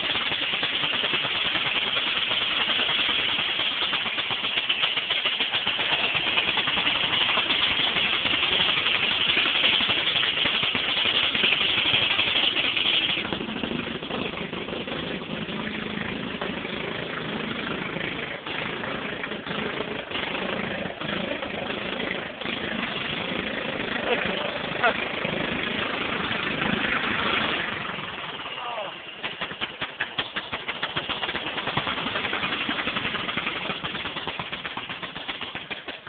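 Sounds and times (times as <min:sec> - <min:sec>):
riding lawn mower engine: 0:00.0 - 0:36.0.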